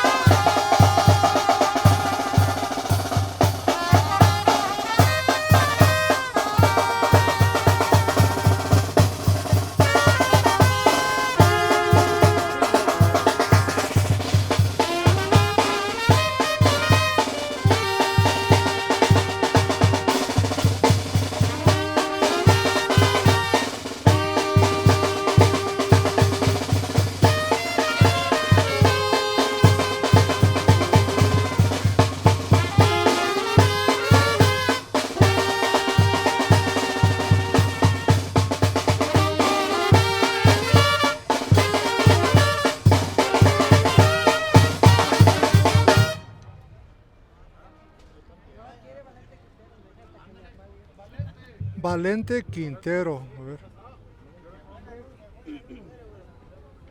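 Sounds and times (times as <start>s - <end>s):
bass drum beat: 0.0s - 46.2s, 51.2s - 53.1s
snare drum: 0.0s - 46.6s, 51.2s - 53.1s
brass melody: 0.0s - 46.8s.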